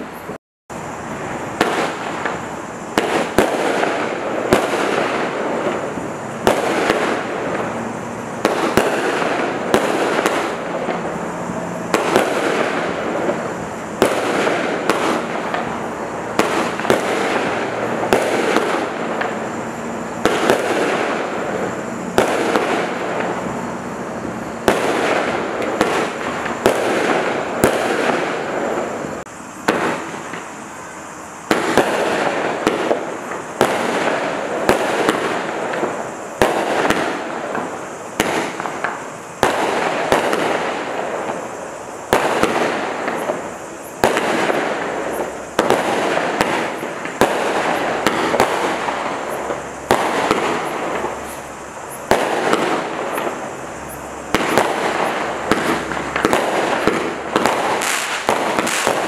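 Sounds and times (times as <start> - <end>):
firework crackling: 0.0 - 59.0
firework shots: 0.0 - 59.0.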